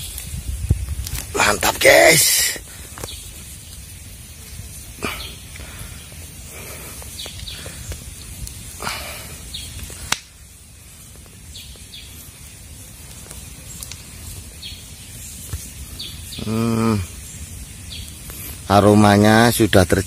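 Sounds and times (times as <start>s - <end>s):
fire pop: 0.0s - 18.6s
birds chirping: 0.0s - 20.0s
campfire crackling: 0.0s - 20.0s.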